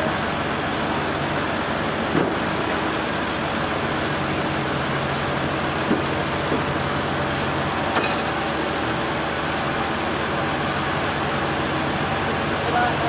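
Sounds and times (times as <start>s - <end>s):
sawmill machinery hum and rumble: 0.0s - 13.0s.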